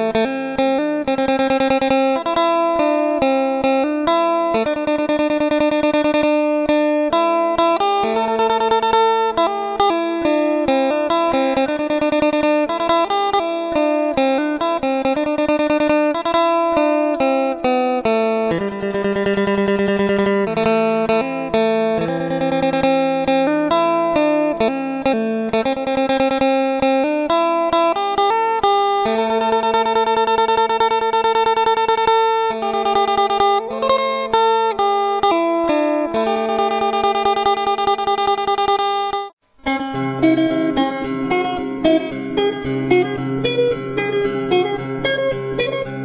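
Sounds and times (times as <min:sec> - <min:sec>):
plucked string instrument music: 0:00.0 - 0:46.0.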